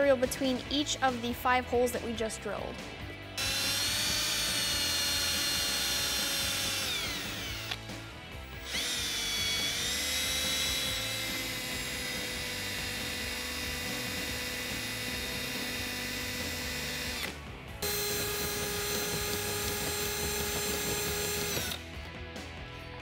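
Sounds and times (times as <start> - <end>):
cordless drill whining: 3.4 - 21.9.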